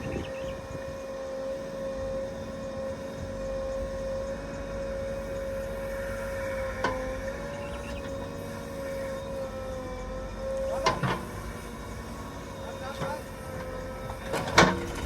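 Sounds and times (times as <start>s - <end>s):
diesel machine engine with whine: 0.0s - 15.0s.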